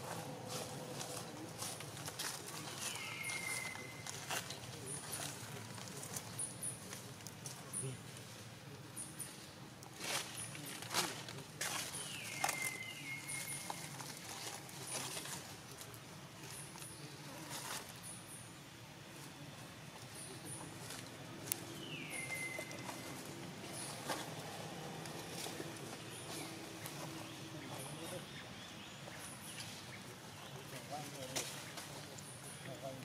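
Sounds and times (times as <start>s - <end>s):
rustling of dry leaf litter: 0.0s - 33.0s.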